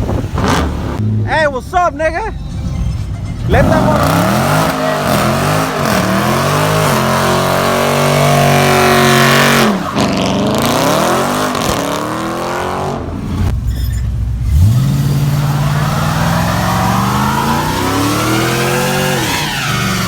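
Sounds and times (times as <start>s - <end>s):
vehicle engine revving: 0.0s - 1.3s, 2.4s - 20.0s.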